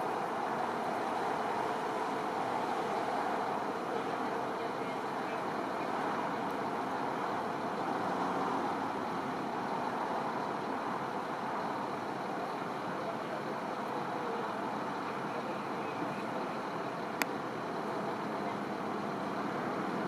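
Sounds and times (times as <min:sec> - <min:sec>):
highway traffic tyre hiss: 0:00.0 - 0:20.0.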